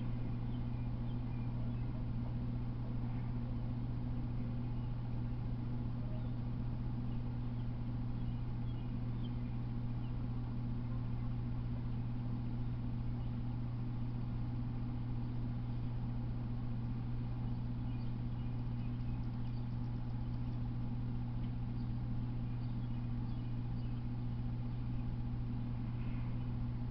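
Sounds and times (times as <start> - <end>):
faint bird chirps: 0.0 - 26.8
steady low hum: 0.0 - 26.9.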